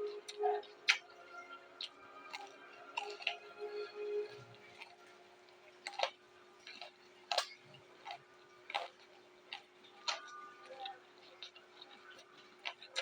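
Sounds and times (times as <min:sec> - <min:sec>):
chewing raw vegetables: 0:00.0 - 0:13.0.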